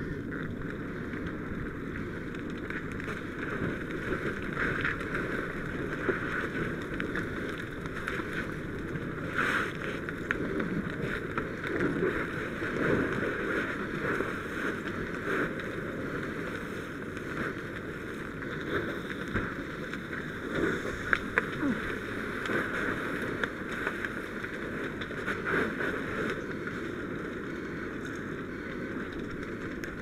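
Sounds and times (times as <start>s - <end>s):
water and fire rushing hiss: 0.0s - 30.0s.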